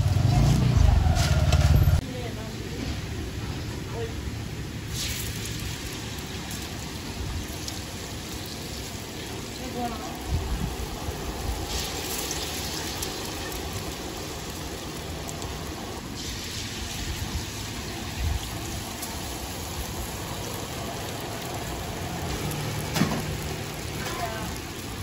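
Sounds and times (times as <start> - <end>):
food sizzling on a hot pan: 3.0 - 25.0.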